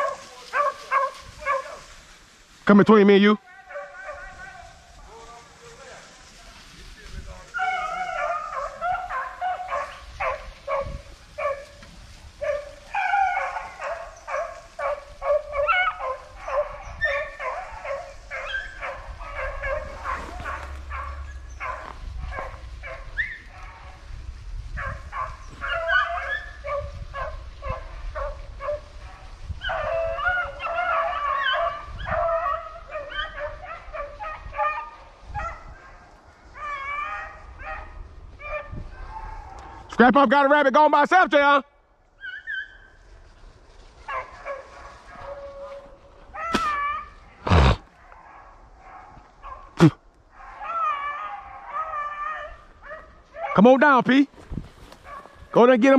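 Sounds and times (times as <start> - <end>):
hounds baying: 0.0 - 2.1, 3.4 - 6.4, 7.4 - 40.0, 42.1 - 54.0, 54.9 - 55.6.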